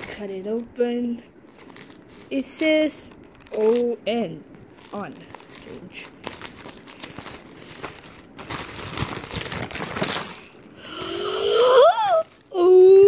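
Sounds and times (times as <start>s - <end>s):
packaging crinkling and tearing: 1.4s - 12.7s.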